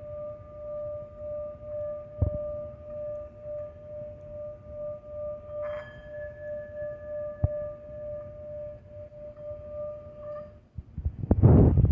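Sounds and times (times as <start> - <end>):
singing bowl ringing: 0.0 - 10.8.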